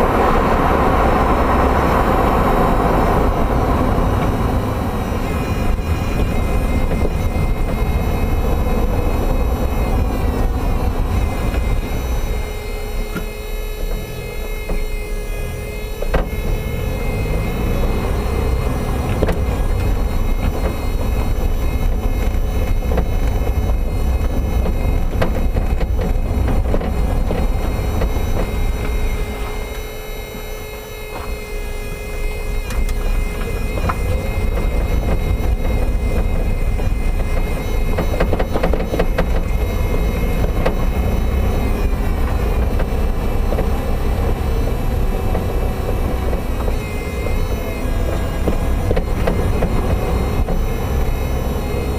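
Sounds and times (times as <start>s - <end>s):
car engine rumble: 0.0s - 51.9s
power steering pump whine: 0.0s - 51.9s.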